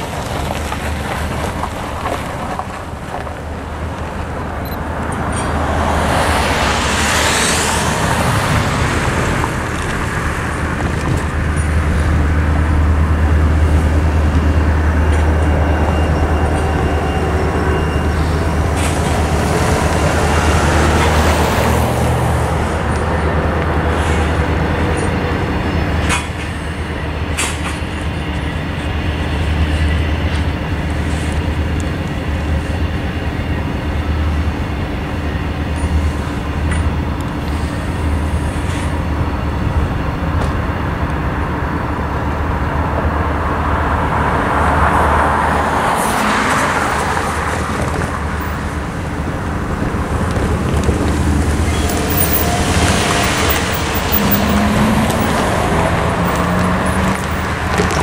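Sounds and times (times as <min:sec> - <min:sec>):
cars passing: 0:00.0 - 0:58.0.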